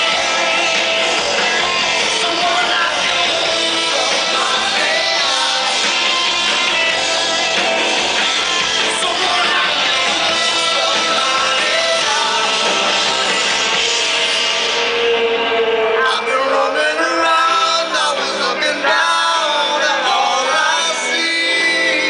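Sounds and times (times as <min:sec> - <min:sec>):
person singing: 0:00.0 - 0:13.9, 0:14.8 - 0:22.0
electric guitars: 0:00.0 - 0:22.0
rock band playing live: 0:00.0 - 0:22.0.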